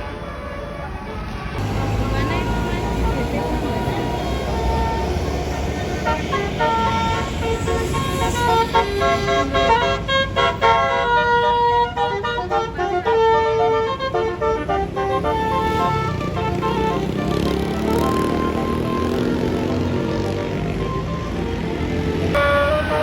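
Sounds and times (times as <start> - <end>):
bus air horn playing tune: 0.0 - 23.0
bus engine rumbling: 0.0 - 23.0.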